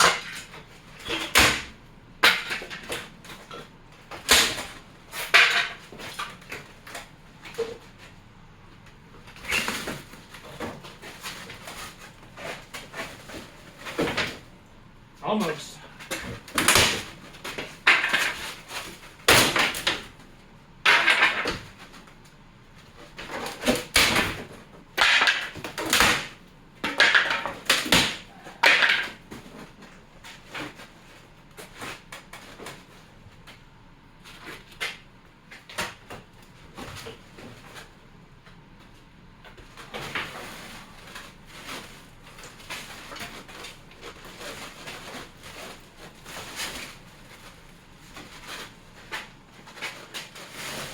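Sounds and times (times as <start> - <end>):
scraping and handling of wood: 0.0 - 50.9.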